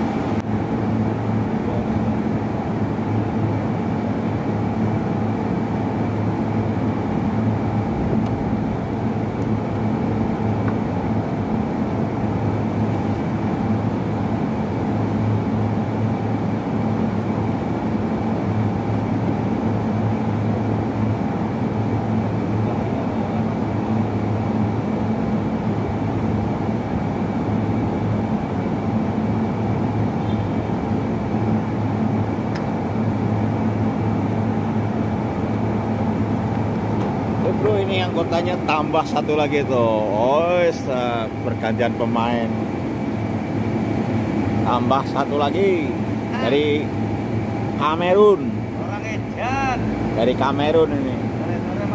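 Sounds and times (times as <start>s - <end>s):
faint high whine: 0.0s - 51.9s
machine engine hum: 0.0s - 51.9s.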